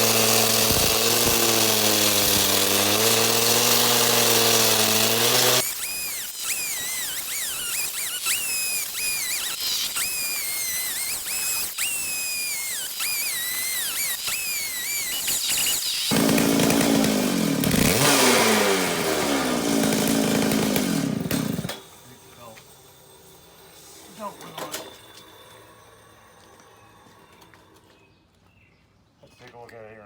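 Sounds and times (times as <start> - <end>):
saw engine note: 0.0 - 28.0
concrete saw blade whining: 0.0 - 28.5.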